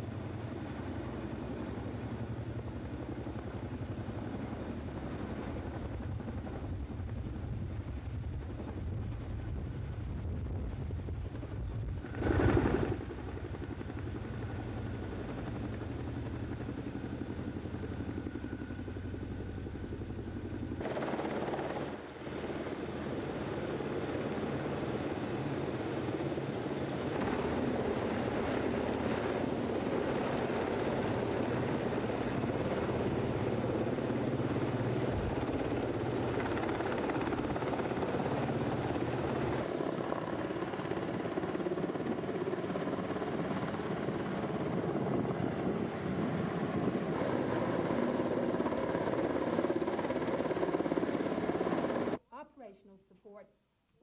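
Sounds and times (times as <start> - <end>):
helicopter rotors: 0.0 - 52.2.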